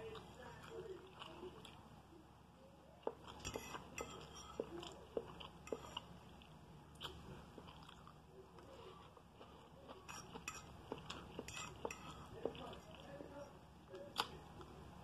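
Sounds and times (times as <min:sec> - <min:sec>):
person chewing food: 0:00.0 - 0:01.9, 0:03.0 - 0:13.4.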